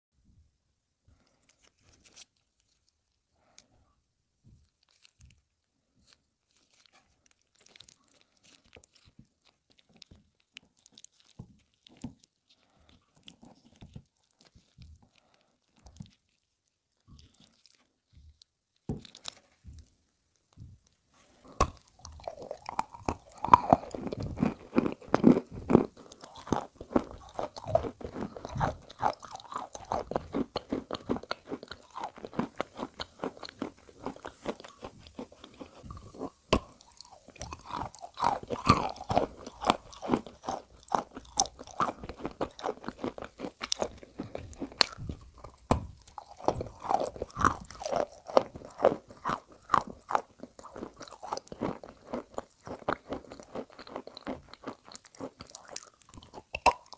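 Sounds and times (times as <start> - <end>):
crunching and chewing: 1.1 - 3.8, 4.6 - 56.9.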